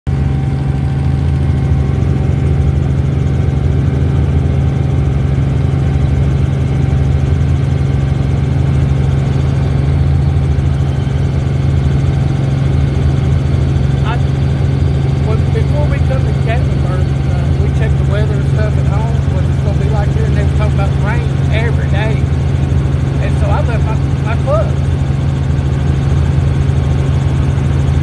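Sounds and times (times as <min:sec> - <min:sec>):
helicopter engine and rotors: 0:00.1 - 0:28.0.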